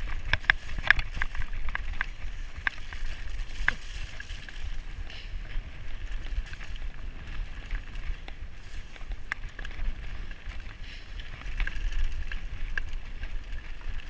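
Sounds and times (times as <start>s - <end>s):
bike rattling clicks: 0.0s - 14.0s
bike tyres rolling on dirt: 0.0s - 14.0s
wind on microphone: 0.0s - 14.0s.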